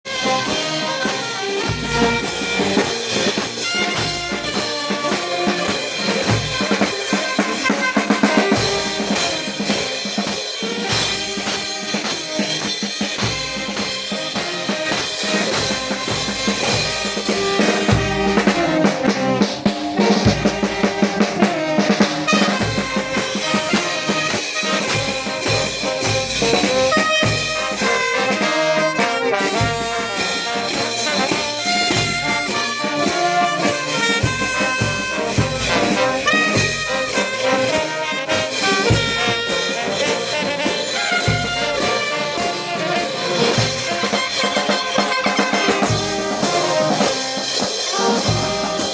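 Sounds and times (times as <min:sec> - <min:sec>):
brass band street march: 0:00.0 - 0:48.9
snare and bass drum beat: 0:00.1 - 0:48.9.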